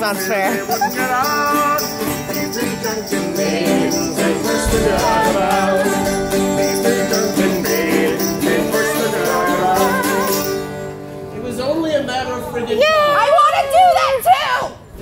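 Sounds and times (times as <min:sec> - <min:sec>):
acoustic folk band playing: 0:00.0 - 0:14.9.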